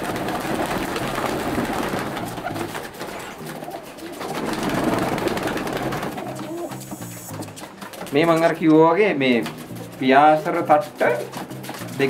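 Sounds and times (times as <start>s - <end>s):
pigeons cooing: 0.0s - 8.6s, 9.3s - 12.0s
wings flapping: 0.0s - 12.0s.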